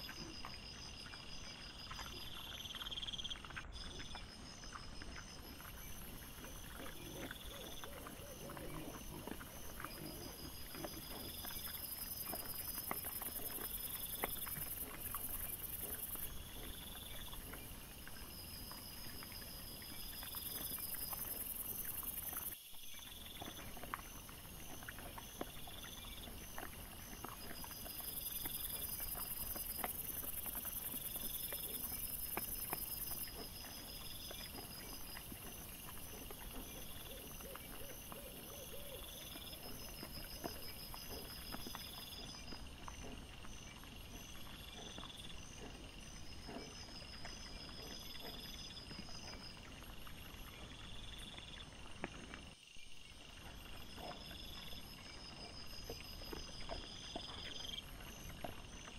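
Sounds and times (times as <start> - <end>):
piglets rooting and feeding: 0.0 - 58.9.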